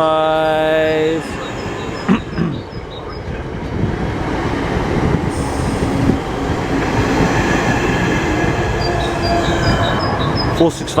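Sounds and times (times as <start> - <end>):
electric train rumble: 0.0 - 11.0
faint steady tones: 0.0 - 11.0.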